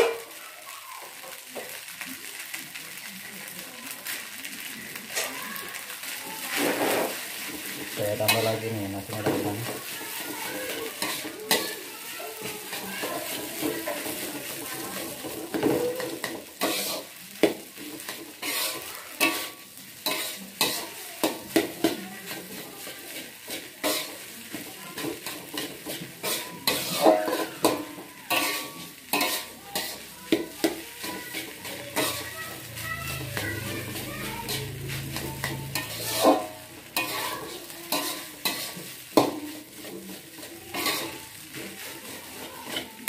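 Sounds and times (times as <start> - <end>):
steady sizzle: 0.0 - 43.0
metal spatula scraping a wok: 5.0 - 43.0.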